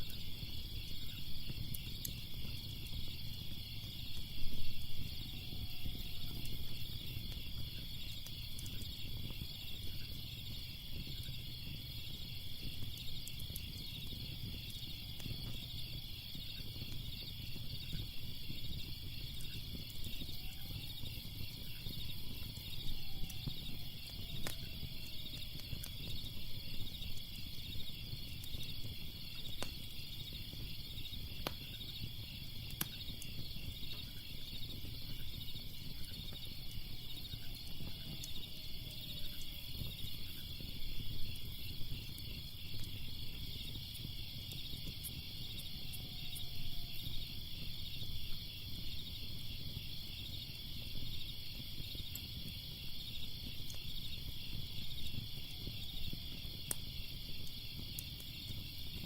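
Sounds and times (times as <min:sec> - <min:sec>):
crickets chirping: 0:00.0 - 0:59.0
fire crackling: 0:00.0 - 0:59.0.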